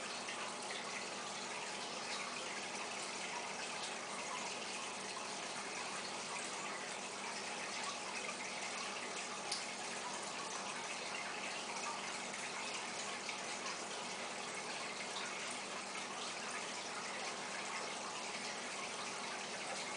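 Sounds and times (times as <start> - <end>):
aquarium water bubbling: 0.0 - 19.9.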